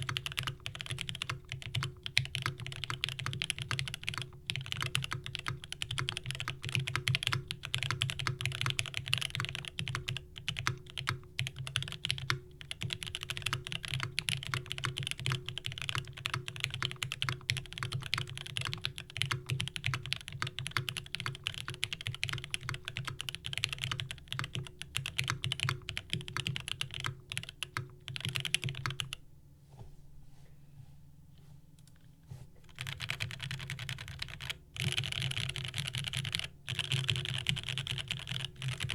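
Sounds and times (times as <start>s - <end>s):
fast typing on mechanical keyboard: 0.0s - 29.2s, 32.7s - 38.9s.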